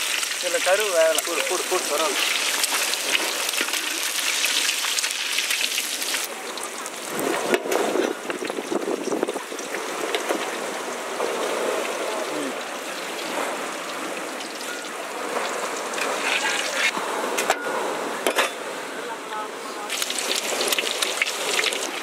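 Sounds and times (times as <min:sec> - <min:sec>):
hot oil sizzling and crackling: 0:00.0 - 0:17.0, 0:19.9 - 0:22.0.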